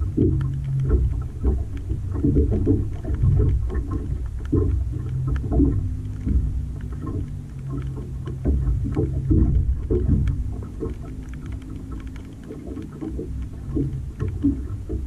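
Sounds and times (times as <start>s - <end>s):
small ticks: 0.0s - 15.0s
water lapping against boat hull: 0.0s - 15.0s.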